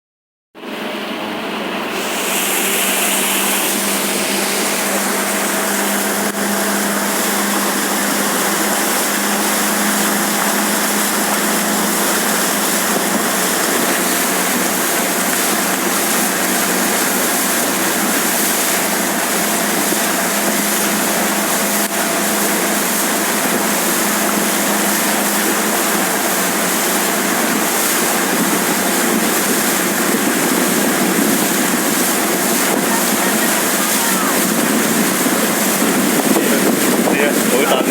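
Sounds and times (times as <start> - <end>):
motorboat engine running: 0.6 - 37.9
rush of water: 0.6 - 37.9
wind: 0.6 - 37.9.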